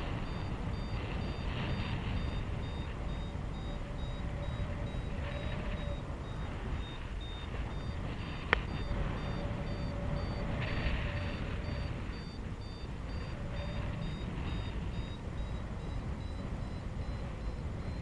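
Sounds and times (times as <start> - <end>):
variometer beeping: 0.0 - 18.0
wind rushing over microphone: 0.0 - 18.0.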